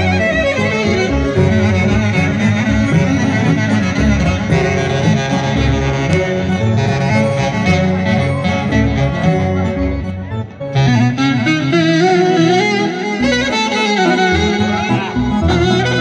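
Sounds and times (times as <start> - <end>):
plucked stringed instrument: 0.0 - 16.0
steady bass line: 0.0 - 16.0.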